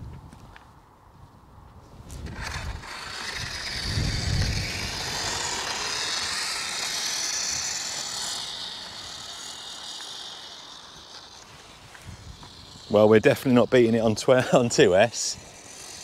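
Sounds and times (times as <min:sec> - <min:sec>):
electric motor high whine: 0:02.1 - 0:16.0.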